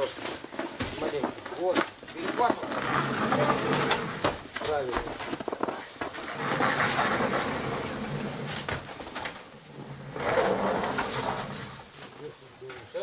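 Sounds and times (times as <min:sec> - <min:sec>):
heavy load scraping: 0:00.0 - 0:04.9, 0:06.2 - 0:12.3.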